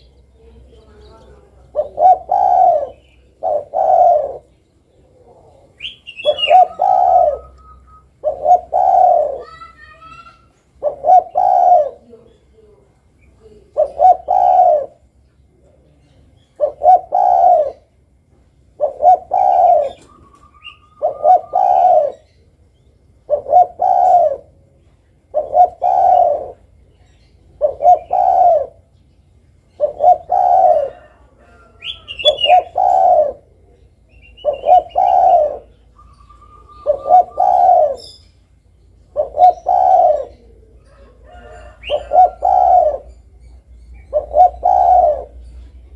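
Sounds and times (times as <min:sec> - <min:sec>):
dove cooing: 0:00.0 - 0:28.9, 0:29.5 - 0:38.4, 0:39.0 - 0:45.9
small birds chirping: 0:00.0 - 0:45.9.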